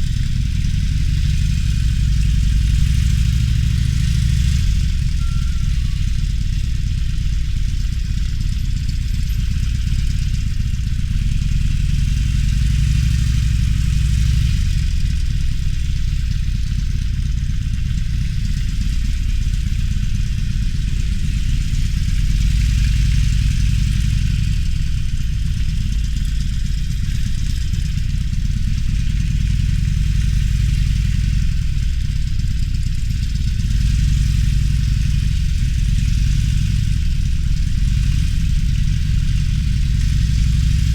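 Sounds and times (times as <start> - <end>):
motorcycle engine running: 0.0 - 40.9
wind: 0.0 - 40.9.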